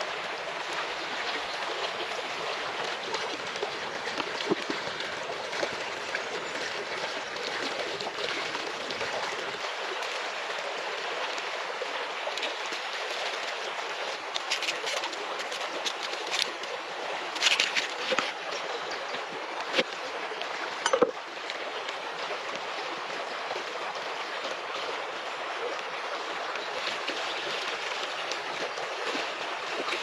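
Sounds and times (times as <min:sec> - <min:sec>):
stream rushing over stones: 0:00.0 - 0:30.0.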